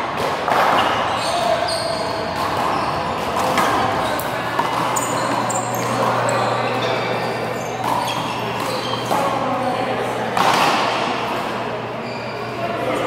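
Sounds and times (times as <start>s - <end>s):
indistinct voices: 0.0s - 13.0s.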